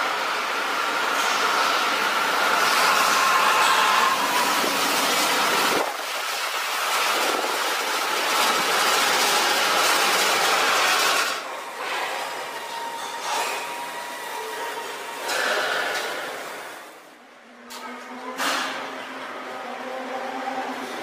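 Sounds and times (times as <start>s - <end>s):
train running with high whine: 0.0s - 17.8s, 18.8s - 21.0s.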